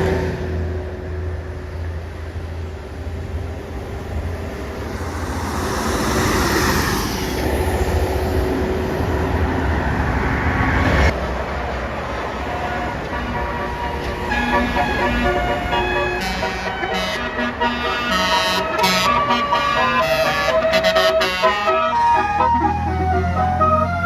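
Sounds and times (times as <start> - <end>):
bus engine rumbling: 0.0 - 24.0
road noise: 0.0 - 24.0.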